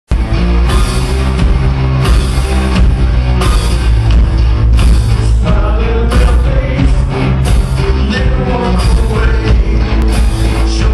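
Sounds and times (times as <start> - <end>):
bass guitar: 0.1 - 10.9
distorted electric guitar: 0.1 - 10.9
drum kit: 0.1 - 10.9.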